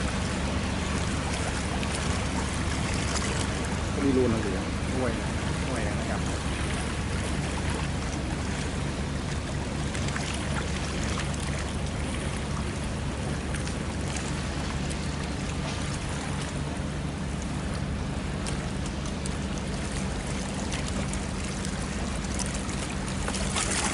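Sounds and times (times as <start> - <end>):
boat engine hum: 0.0 - 23.9
water splashing along hull: 0.0 - 23.9.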